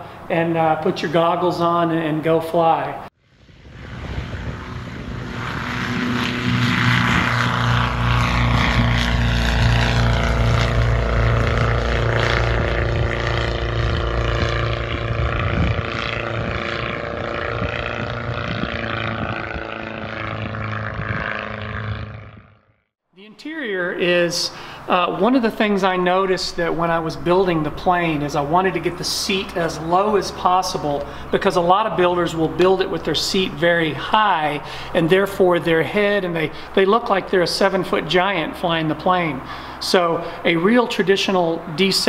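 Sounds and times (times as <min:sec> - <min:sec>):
propeller plane engine at full power: 0:00.0 - 0:00.4, 0:03.1 - 0:22.8, 0:24.1 - 0:42.0.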